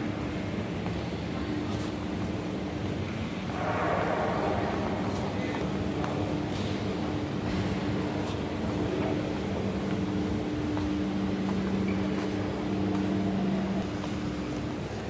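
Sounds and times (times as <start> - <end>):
low machine hum: 0.0 - 15.0
rushing background noise: 0.0 - 15.0.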